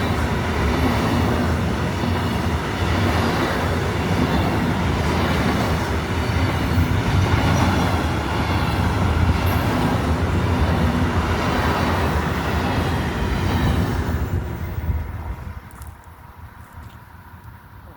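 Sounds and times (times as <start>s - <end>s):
freight train wheels rumbling on rail: 0.0s - 17.9s.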